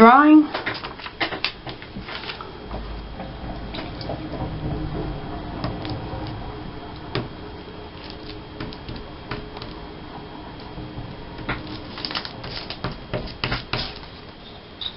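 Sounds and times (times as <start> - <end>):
dull low handling rumble: 1.6 - 14.9.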